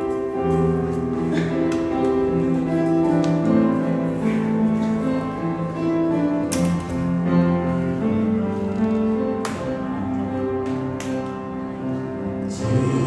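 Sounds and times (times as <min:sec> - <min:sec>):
piano: 0:00.0 - 0:13.0
slow instrumental hymn music: 0:00.0 - 0:13.0.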